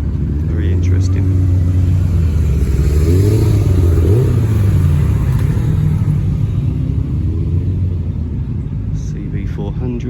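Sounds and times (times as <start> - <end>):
vehicle engine accelerating: 0.0 - 9.1.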